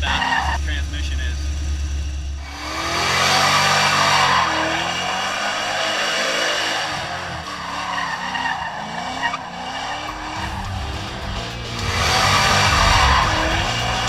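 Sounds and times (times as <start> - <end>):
car engine revving: 0.0 - 14.0
tyres squealing: 2.7 - 14.0.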